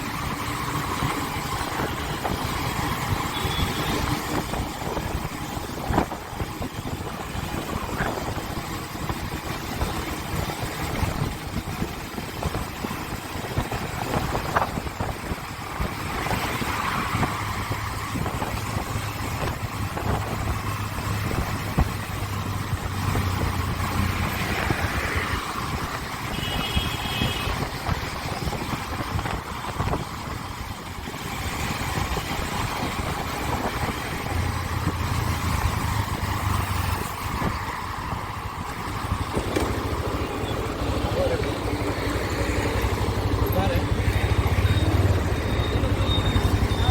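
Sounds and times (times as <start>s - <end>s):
motorcycle engine hum: 0.0s - 46.9s
road and wind noise: 0.0s - 46.9s.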